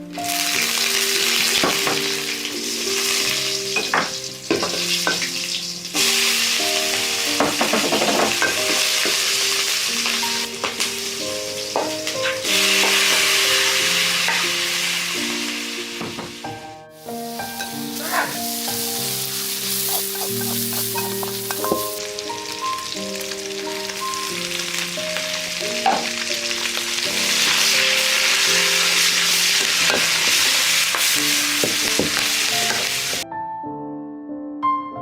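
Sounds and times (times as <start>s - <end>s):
soft background melody: 0.0s - 35.0s
food sizzling in a pan: 0.1s - 33.2s.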